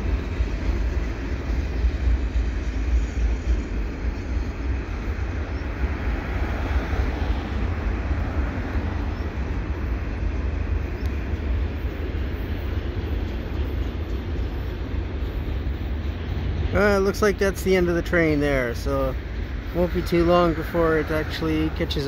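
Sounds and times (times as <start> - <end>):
train cars rumbling past: 0.0 - 22.0.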